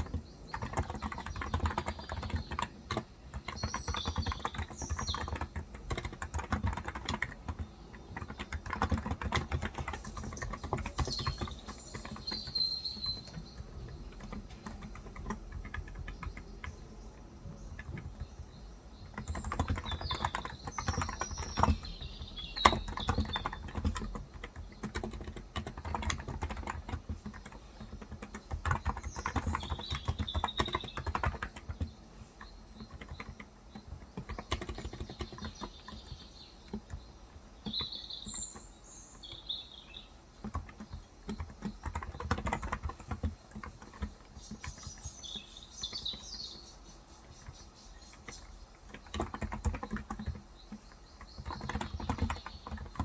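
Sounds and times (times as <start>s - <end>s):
birds chirping: 0.0s - 53.0s
keyboard typing clacks: 0.0s - 53.0s.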